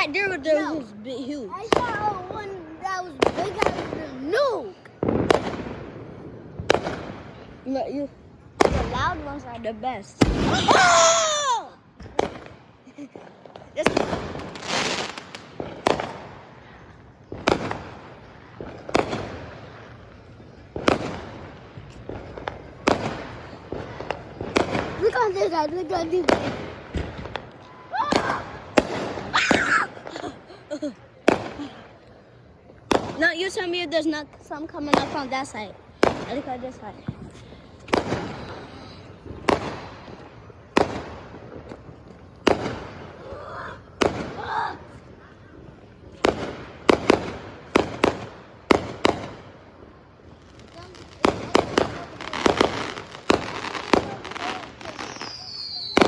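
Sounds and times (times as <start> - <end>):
faint fireworks pops: 0.0 - 56.0
fireworks bangs: 0.0 - 56.0
fireworks crackling hiss: 0.0 - 56.0.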